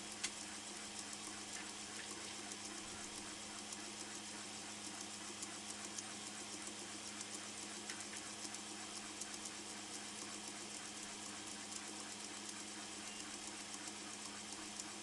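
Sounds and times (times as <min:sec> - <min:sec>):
laser engraver humming and ticking: 0:00.0 - 0:15.0.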